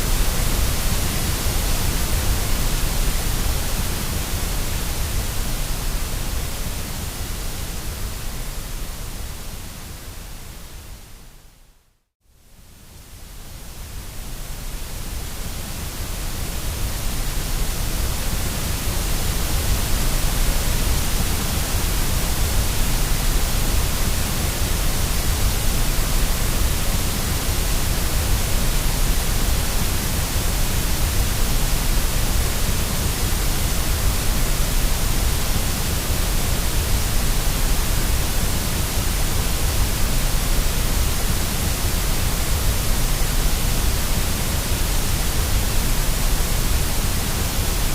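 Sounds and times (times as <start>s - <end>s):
white noise hiss: 0.0s - 47.9s.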